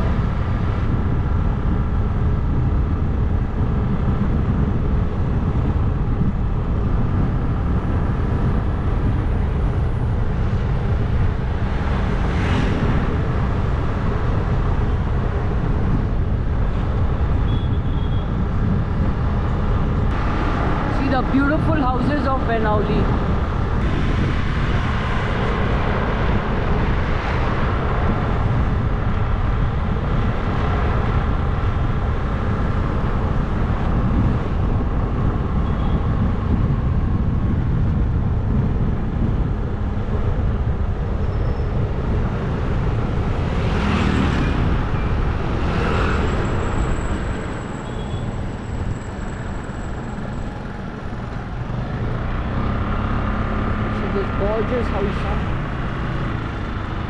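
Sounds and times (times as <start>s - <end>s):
road noise: 0.0s - 57.0s
wind rushing over microphone: 0.0s - 57.0s.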